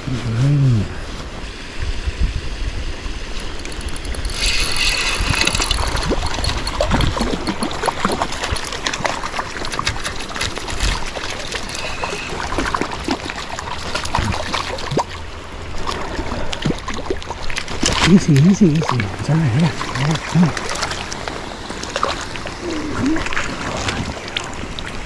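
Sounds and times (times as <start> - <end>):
rush of water: 0.0 - 25.0
stream running and trickling: 0.0 - 25.0
small water splashes: 3.4 - 25.0.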